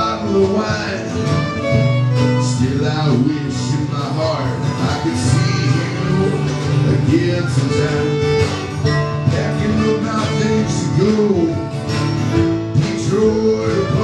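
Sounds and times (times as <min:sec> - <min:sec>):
acoustic guitar: 0:00.0 - 0:14.0
country band playing: 0:00.0 - 0:14.0
fiddle: 0:00.0 - 0:14.0.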